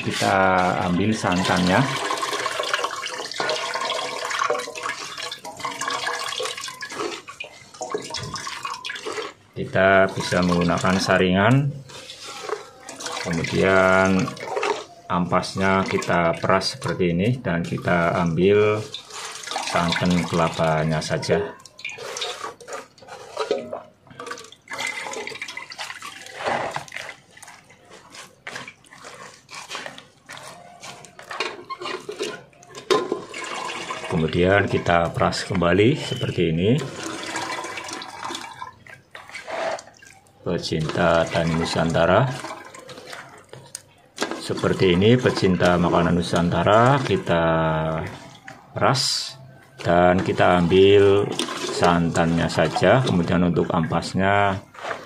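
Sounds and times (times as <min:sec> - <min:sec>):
hand squelching wet coconut in pot: 0:00.0 - 0:55.0
liquid dripping through metal sieve: 0:00.0 - 0:55.0.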